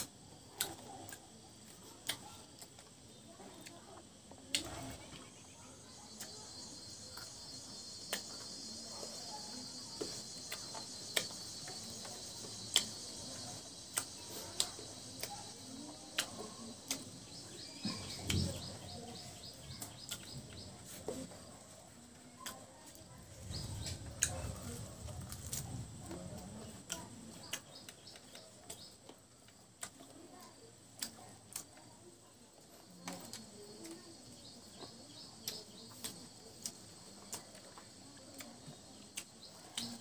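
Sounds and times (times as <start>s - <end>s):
insect trilling and chirping: 0.0s - 21.7s, 22.3s - 40.0s.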